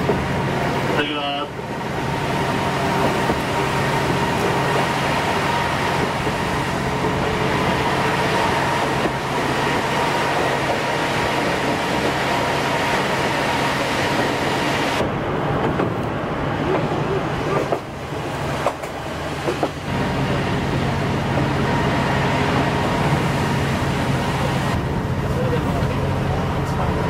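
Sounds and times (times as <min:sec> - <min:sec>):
railcar engine drone: 0:00.0 - 0:27.0
wheels rumbling on rails: 0:00.0 - 0:27.0.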